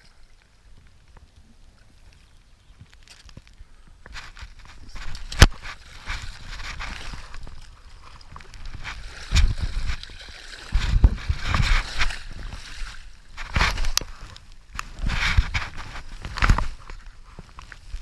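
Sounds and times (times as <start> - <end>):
river water sloshing and gurgling: 0.0 - 18.0.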